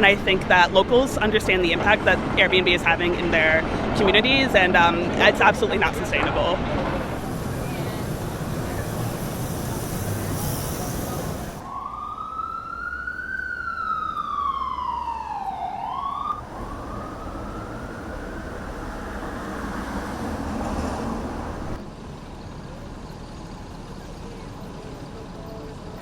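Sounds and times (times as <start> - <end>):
emergency siren wailing: 0.0 - 21.8
city traffic noise: 0.0 - 26.0.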